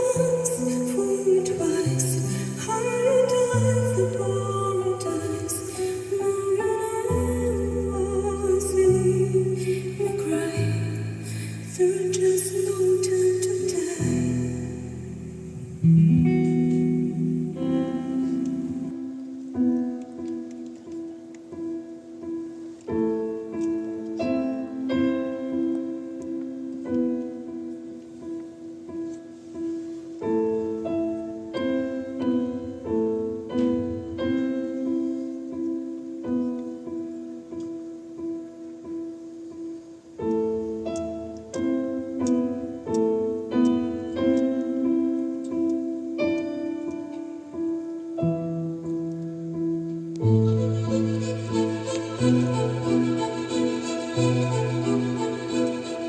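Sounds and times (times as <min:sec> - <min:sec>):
piano chords: 0:00.0 - 0:56.0.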